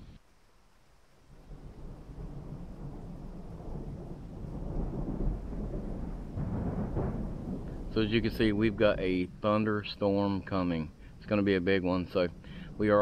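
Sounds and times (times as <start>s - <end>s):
thunder rumble: 1.2s - 13.0s.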